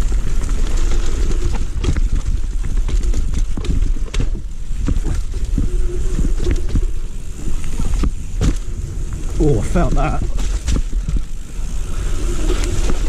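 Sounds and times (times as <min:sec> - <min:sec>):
bike rattling and knocking: 0:00.0 - 0:13.0
bike rumbling on dirt trail: 0:00.0 - 0:13.0.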